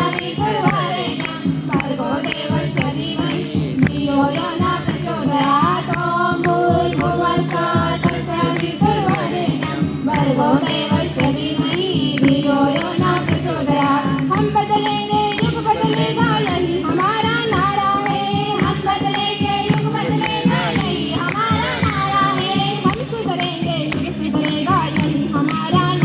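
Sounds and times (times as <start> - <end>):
group singing devotional song: 0.0 - 26.0
percussion beat: 0.0 - 26.0.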